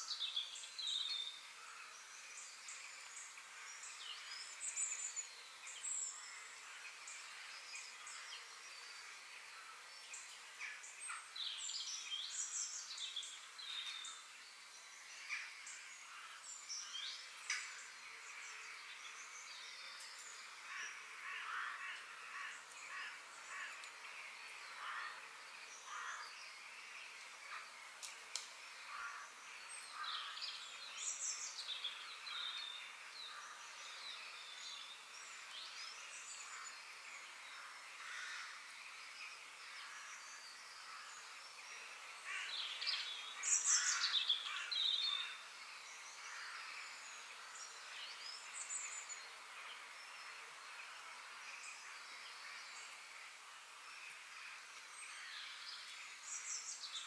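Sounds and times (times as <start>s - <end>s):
faint steady hiss: 0.0s - 57.0s
forest birds singing and chirping: 0.0s - 57.0s.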